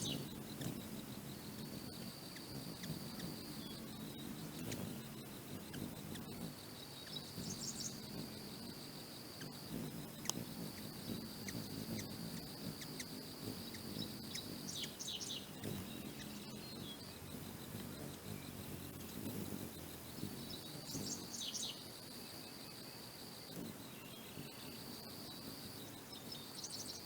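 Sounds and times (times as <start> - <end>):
high insect trill: 0.0 - 27.0
hummingbirds chittering: 0.0 - 27.0.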